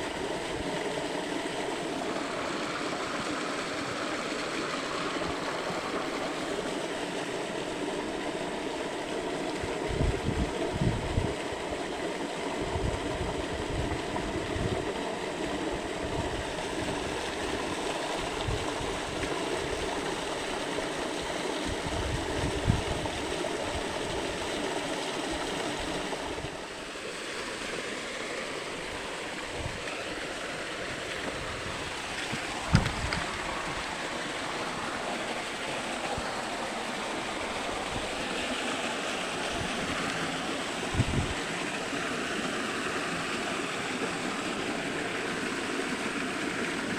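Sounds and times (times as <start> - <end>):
stream water running: 0.0 - 46.9.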